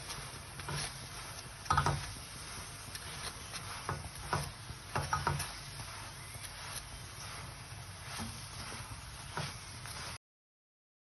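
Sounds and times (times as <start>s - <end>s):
flatbread sizzling on a pan: 0.0s - 10.2s.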